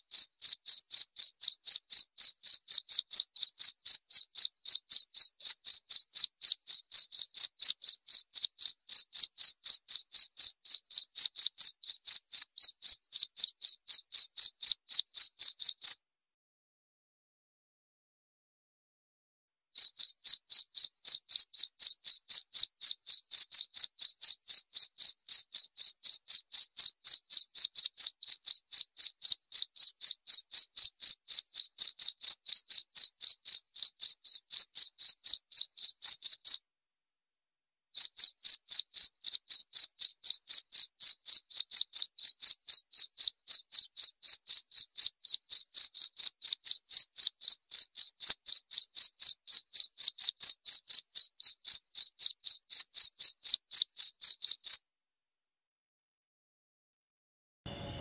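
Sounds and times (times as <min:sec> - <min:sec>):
cricket chirping: 0:00.1 - 0:16.0, 0:19.8 - 0:36.6, 0:38.0 - 0:54.8.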